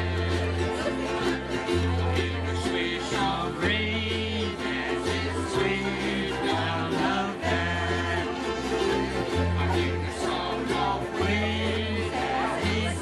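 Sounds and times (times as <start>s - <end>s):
ukuleles strummed: 0.0s - 13.0s.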